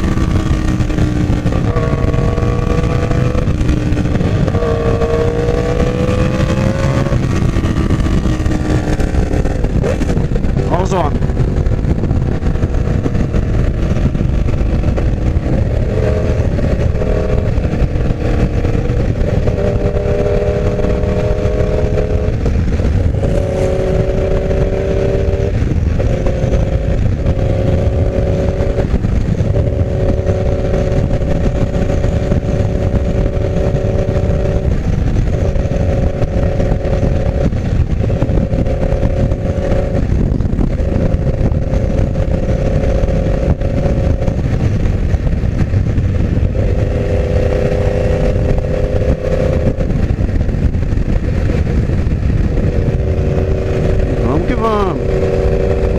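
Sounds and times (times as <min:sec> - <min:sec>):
motorcycle engine cruising: 0:00.0 - 0:55.9
wind rush: 0:00.0 - 0:55.9.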